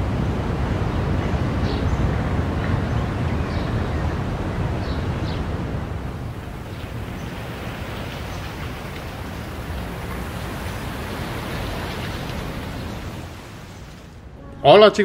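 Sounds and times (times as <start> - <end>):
low wind-like rumbling: 0.0 - 14.5.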